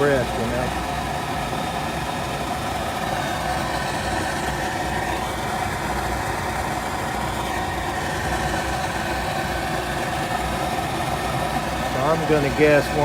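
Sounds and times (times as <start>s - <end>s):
draft inducer whine: 0.0s - 13.0s
gas furnace humming: 0.0s - 13.0s.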